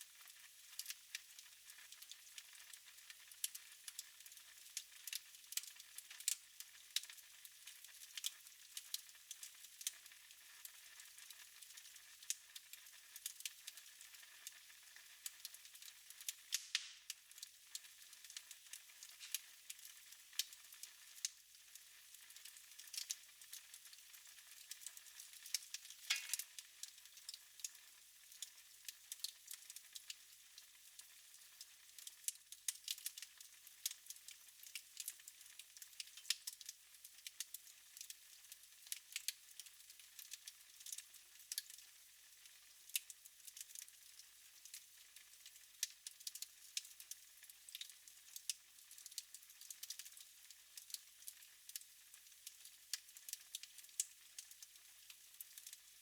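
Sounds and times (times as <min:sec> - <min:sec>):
wood fire crackling and popping: 0:00.2 - 0:31.2, 0:31.9 - 0:41.8, 0:42.9 - 0:50.2, 0:50.8 - 0:51.8, 0:55.4 - 0:55.8.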